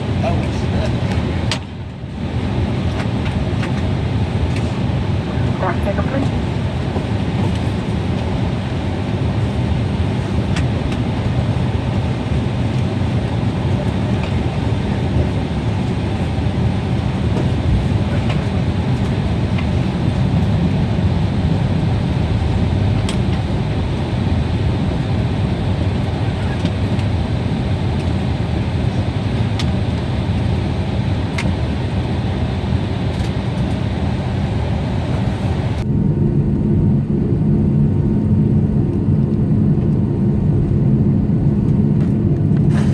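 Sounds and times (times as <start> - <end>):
vehicle rumble: 0.0 - 42.9.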